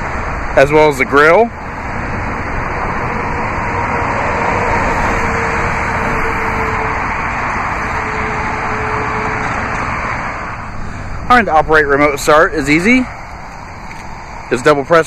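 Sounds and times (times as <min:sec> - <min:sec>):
highway traffic noise: 0:00.0 - 0:15.0.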